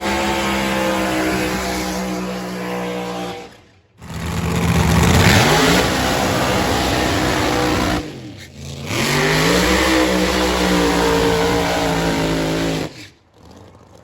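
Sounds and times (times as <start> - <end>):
drag car engine revving: 0.0 - 14.0.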